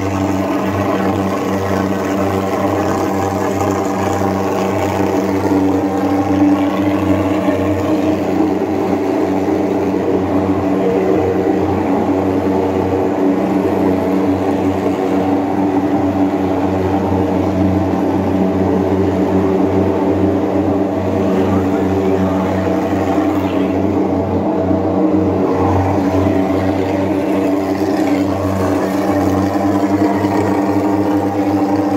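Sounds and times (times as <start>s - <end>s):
fogging machine engine drone: 0.0s - 31.9s.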